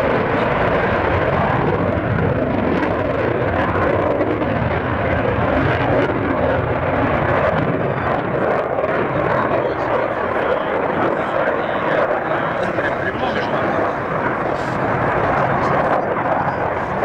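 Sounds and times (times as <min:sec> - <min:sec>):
jet roar overhead: 0:00.0 - 0:17.0.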